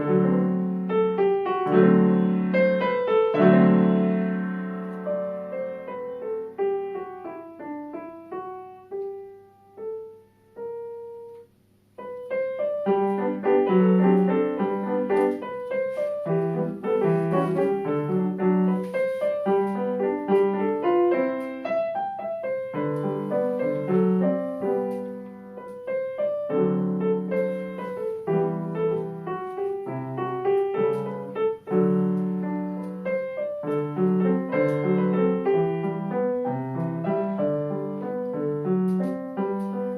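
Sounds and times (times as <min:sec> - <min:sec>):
piano playing: 0:00.0 - 0:39.9.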